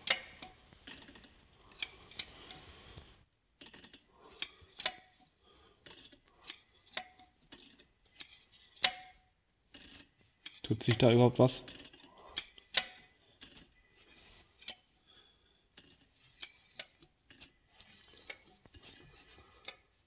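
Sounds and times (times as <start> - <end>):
screwdriver clicking and scraping metal: 0.0 - 2.7, 3.6 - 5.2, 5.8 - 15.0, 15.7 - 20.0.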